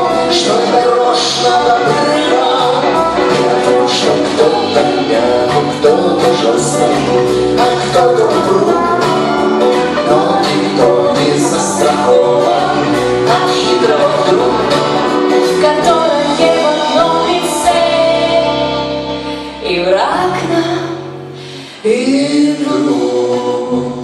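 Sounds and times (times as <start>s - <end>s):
instrumental accompaniment: 0.0s - 24.0s
person singing jazz: 0.0s - 24.0s.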